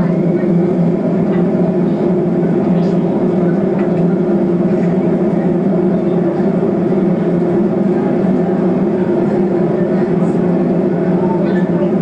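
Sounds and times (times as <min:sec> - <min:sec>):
jet engines droning: 0:00.0 - 0:12.0.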